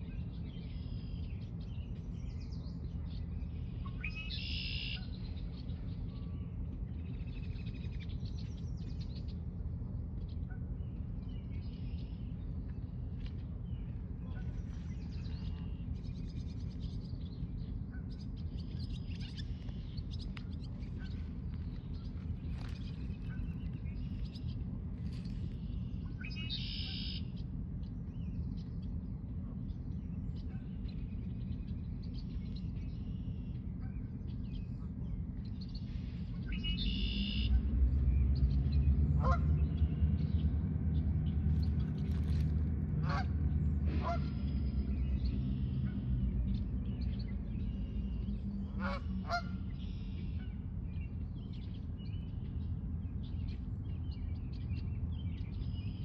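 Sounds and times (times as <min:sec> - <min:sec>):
steady low rumble: 0:00.0 - 0:56.0.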